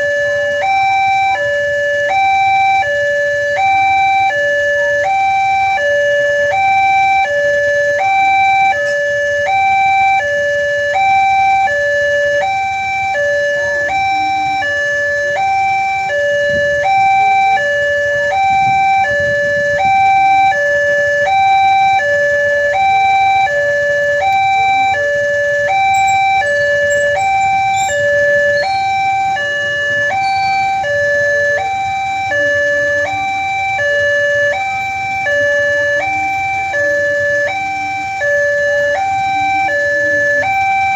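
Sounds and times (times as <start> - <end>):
level crossing two-tone alarm: 0.0 - 40.9.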